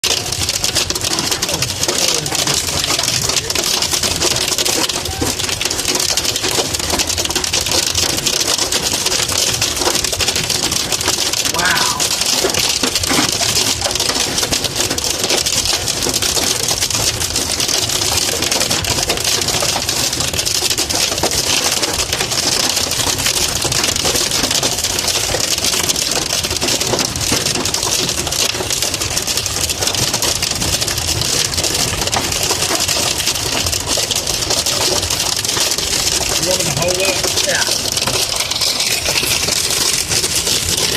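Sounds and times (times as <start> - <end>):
hail pelting car roof: 0.0 - 40.9.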